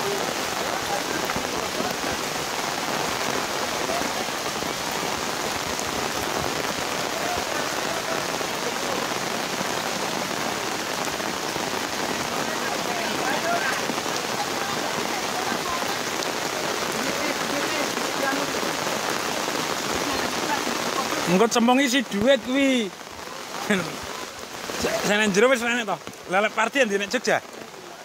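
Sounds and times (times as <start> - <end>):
heavy rain on roof tiles: 0.0 - 28.0.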